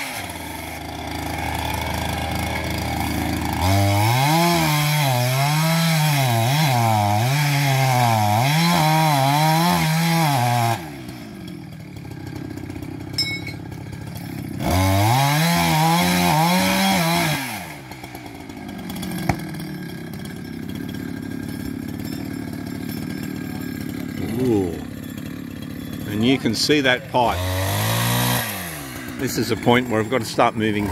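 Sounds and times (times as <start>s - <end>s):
chainsaw revving and idling: 0.0s - 30.9s.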